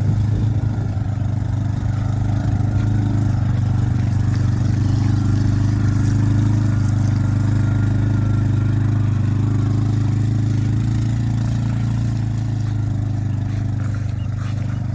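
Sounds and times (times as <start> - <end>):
quad bike engine droning: 0.0 - 14.9.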